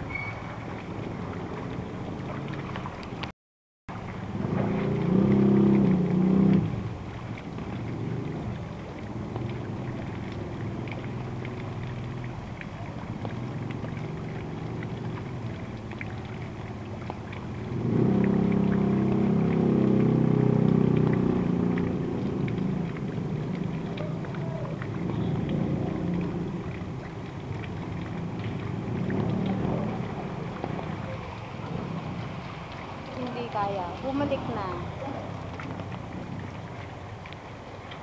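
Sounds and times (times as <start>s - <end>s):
rain and water wash: 0.0s - 3.3s, 3.9s - 38.0s
vehicle engines through floodwater: 0.0s - 3.3s, 3.9s - 38.0s.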